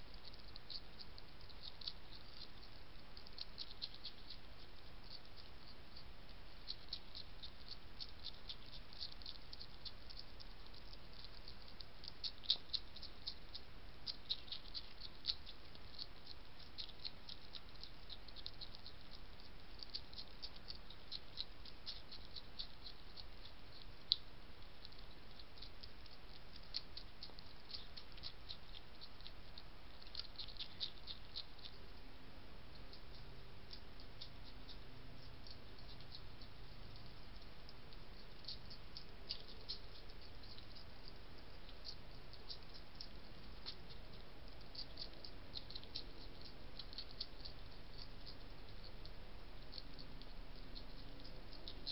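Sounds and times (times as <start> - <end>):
hedgehog chewing dry biscuits: 0.0 - 51.9
steady hiss: 0.0 - 51.9.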